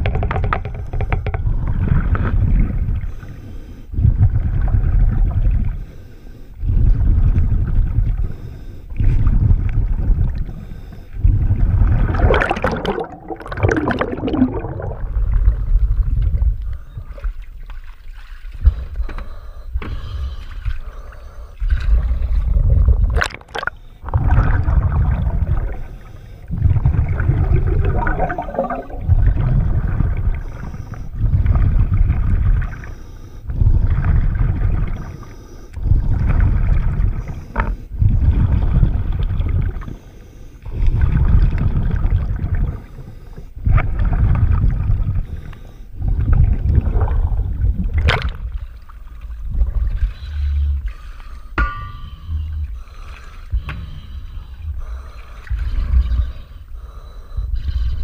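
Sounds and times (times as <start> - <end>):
exhaled bubbles gurgling underwater: 0.0 - 19.0, 19.9 - 58.0
diver inhaling through regulator: 0.5 - 4.8, 5.6 - 9.6, 10.4 - 17.4, 18.6 - 41.4, 42.5 - 46.6, 49.8 - 58.0.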